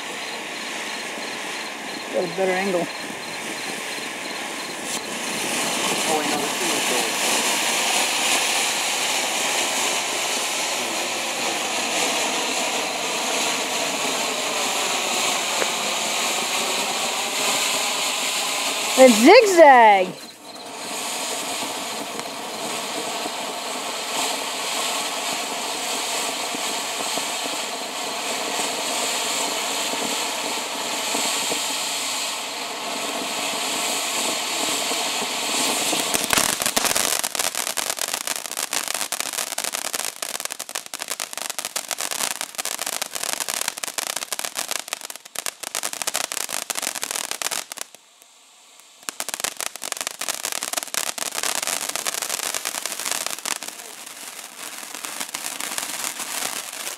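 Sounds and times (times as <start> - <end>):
firework crackling: 0.0 - 56.9
firework fountain hissing: 0.0 - 56.9.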